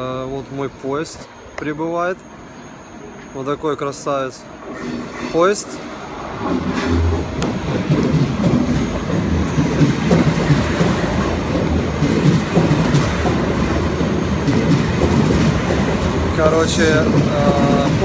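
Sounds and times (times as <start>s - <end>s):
train wheels rolling past: 2.1s - 18.0s.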